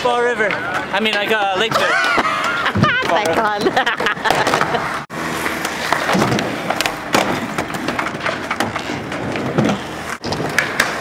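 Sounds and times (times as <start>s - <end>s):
skateboard wheels rolling on concrete: 0.0s - 11.0s
skateboards clacking on ground: 0.0s - 11.0s.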